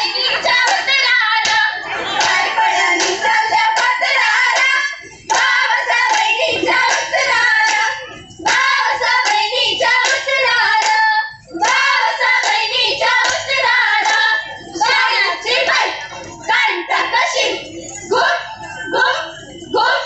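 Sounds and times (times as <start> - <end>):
rhythmic hand-clapping: 0.0 - 16.2
women singing folk song: 0.0 - 17.4.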